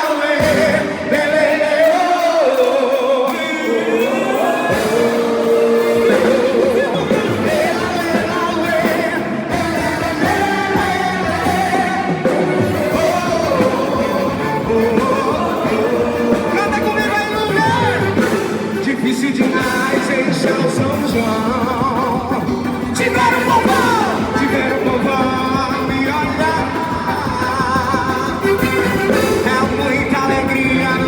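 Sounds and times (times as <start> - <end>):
live band playing: 0.0 - 31.0
person singing: 0.0 - 31.0.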